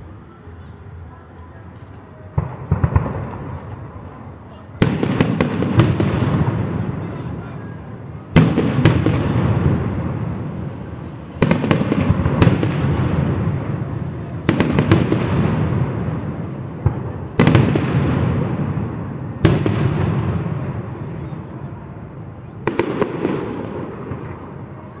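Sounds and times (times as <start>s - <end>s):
fireworks bursting with sharp bangs: 2.2s - 25.0s.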